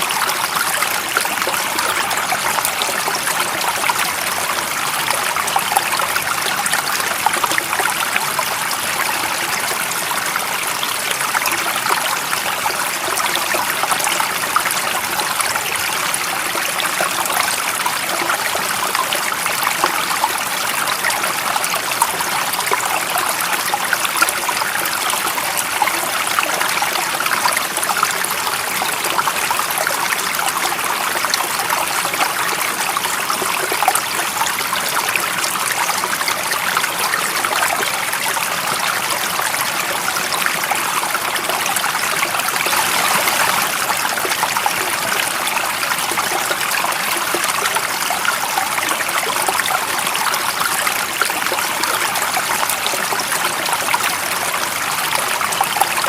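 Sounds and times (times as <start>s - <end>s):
stream of water trickling: 0.0s - 56.0s.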